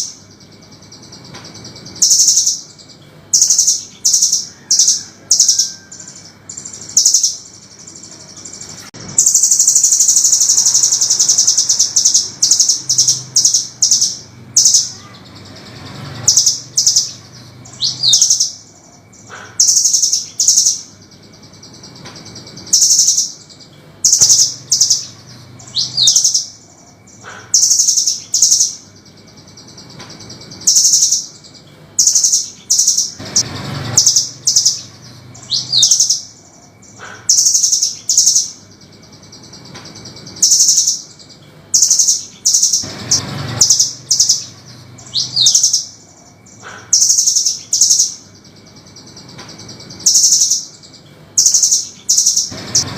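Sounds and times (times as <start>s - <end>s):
bird rapid trill: 0.0s - 52.9s
nuthatch calling harsh high notes: 1.7s - 21.1s, 22.6s - 29.8s, 30.6s - 39.6s, 40.2s - 49.2s, 49.8s - 52.9s.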